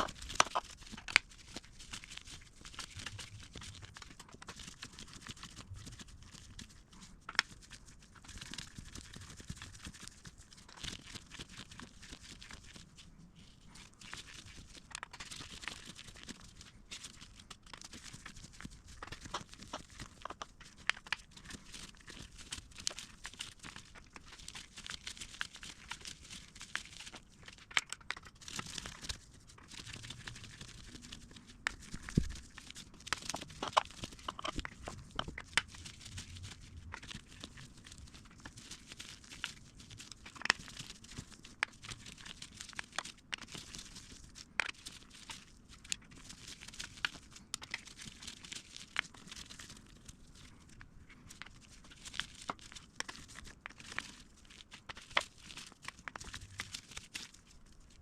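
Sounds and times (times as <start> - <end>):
rustling: 0.0 - 58.0.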